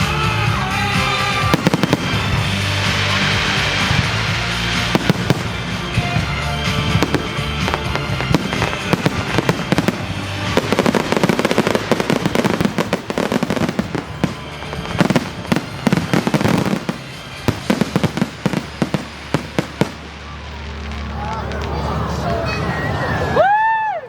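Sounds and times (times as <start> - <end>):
fireworks bangs and crackles: 0.0 - 23.4
music playing: 0.0 - 23.5.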